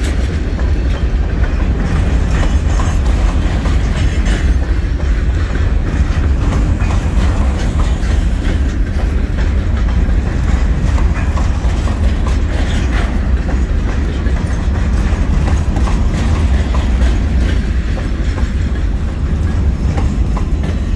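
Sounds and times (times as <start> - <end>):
train wheels rumbling on rail: 0.0 - 20.9.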